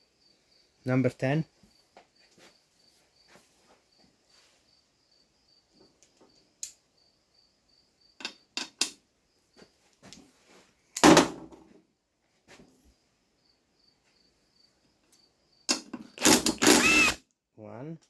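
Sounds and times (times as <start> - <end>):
faint cricket-like chirping: 0.0 - 10.9, 12.2 - 16.2.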